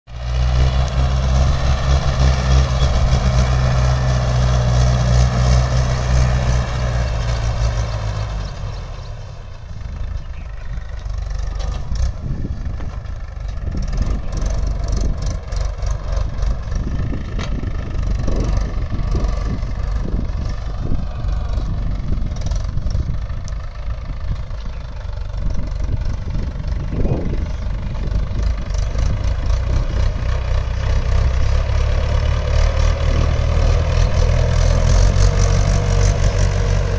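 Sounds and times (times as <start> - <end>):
tractor diesel engine under load: 0.1 - 36.9.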